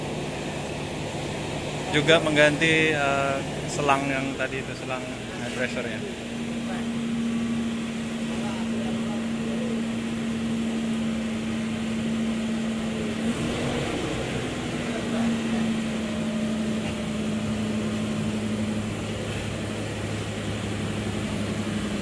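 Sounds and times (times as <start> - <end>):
car engine humming: 0.0 - 22.0
lower engine tone: 0.0 - 22.0.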